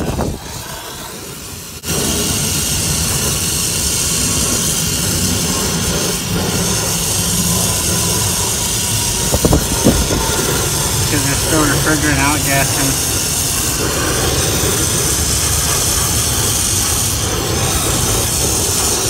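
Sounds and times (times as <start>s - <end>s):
torch flame rushing: 0.0s - 19.0s.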